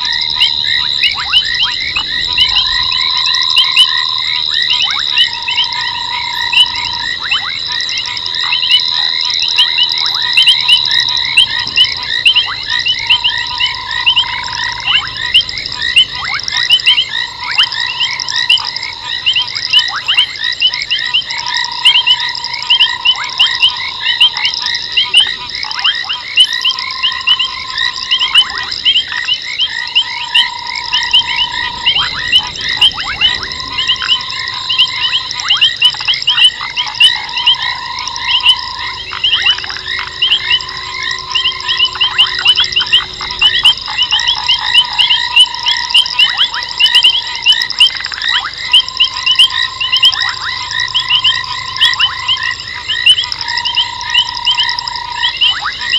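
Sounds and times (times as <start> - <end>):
constant high whine: 0.0 - 55.9
frogs chirping: 0.0 - 55.9
low frog trill: 0.0 - 55.9.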